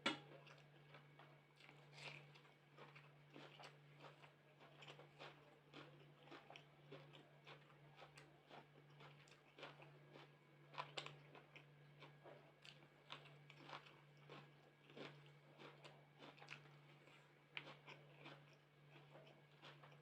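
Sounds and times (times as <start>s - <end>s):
low electrical hum: 0.0s - 20.0s
person chewing food: 0.0s - 20.0s.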